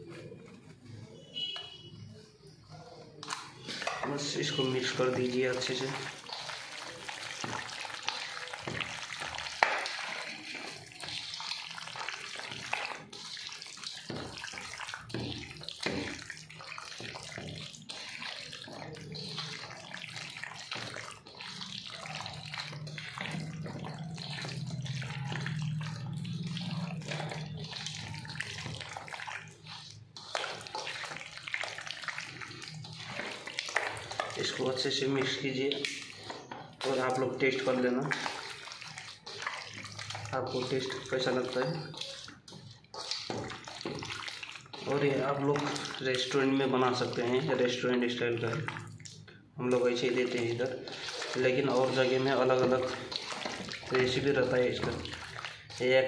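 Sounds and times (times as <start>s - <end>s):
hand squelching in wet marinade: 3.2s - 56.0s.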